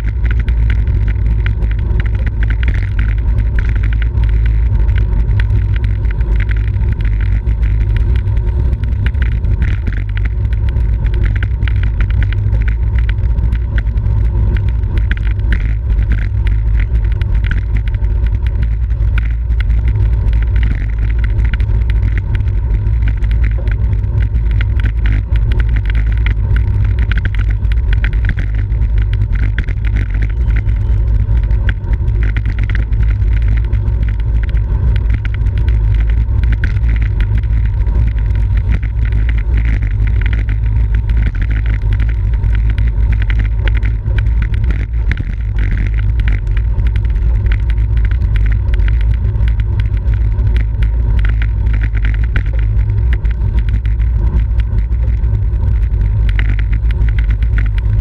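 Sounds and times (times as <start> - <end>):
faint ticking: 0.0 - 58.0
road noise: 0.0 - 58.0.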